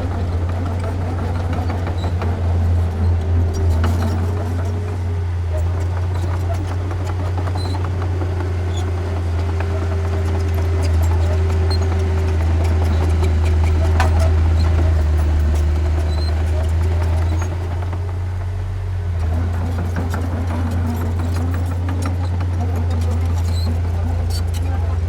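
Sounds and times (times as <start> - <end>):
heavy diesel engine droning: 0.0 - 25.0.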